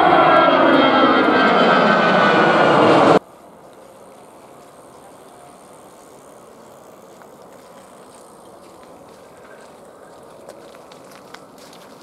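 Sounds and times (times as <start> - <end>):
distant jet engines idling: 0.0 - 11.5.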